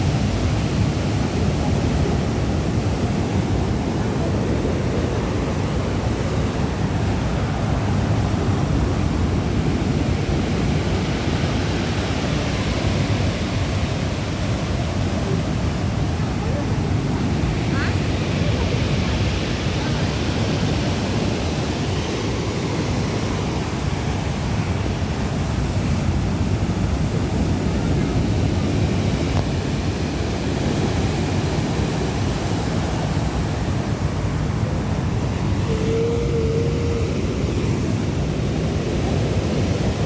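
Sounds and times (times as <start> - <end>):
sea surf washing on shore: 0.0 - 40.0
wind rumbling on microphone: 0.0 - 40.0.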